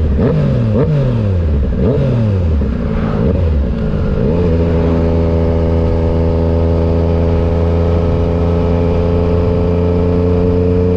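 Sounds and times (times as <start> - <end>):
motorcycle engine at steady revs: 0.0 - 10.9.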